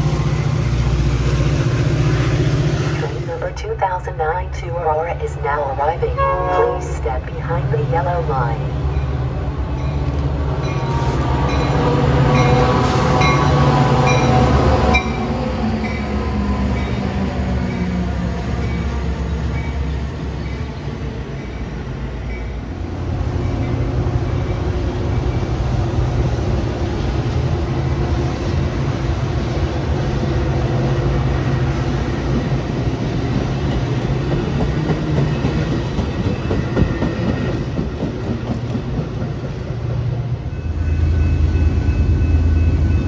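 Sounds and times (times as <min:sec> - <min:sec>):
train wheels rumbling on rails: 0:00.0 - 0:03.9, 0:05.6 - 0:43.0.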